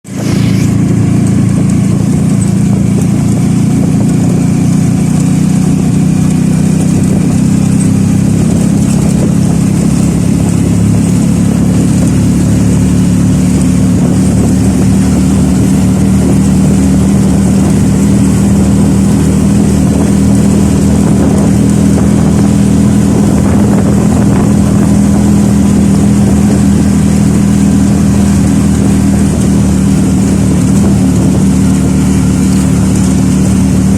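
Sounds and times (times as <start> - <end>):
steady engine drone: 0.0 - 33.9.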